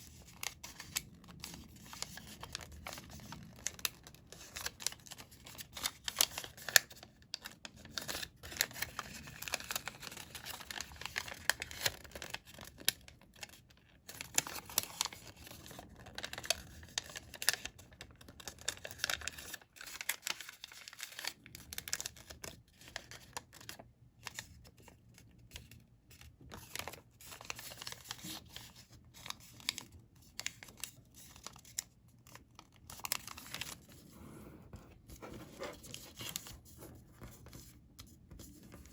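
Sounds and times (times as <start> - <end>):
paper rustling and crinkling: 0.0 - 38.9.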